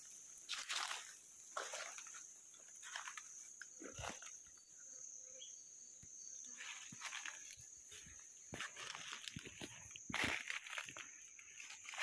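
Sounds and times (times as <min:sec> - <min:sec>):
footsteps rustling undergrowth: 0:00.0 - 0:04.4, 0:06.5 - 0:12.0.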